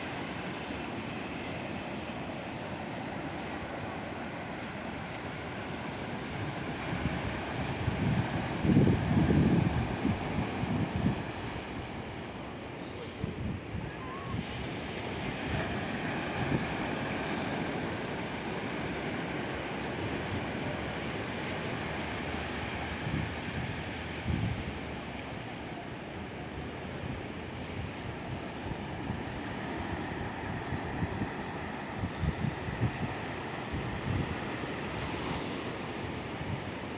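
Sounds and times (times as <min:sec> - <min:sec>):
ocean surf washing on beach: 0:00.0 - 0:36.9
wind buffeting microphone: 0:05.6 - 0:12.4, 0:13.2 - 0:25.2, 0:26.0 - 0:36.9.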